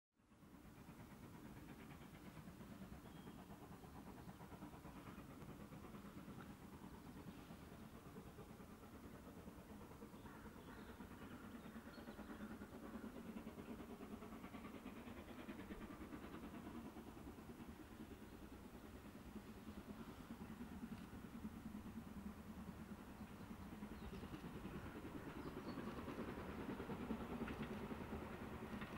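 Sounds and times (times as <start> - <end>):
steam locomotive working: 0.2 - 28.9.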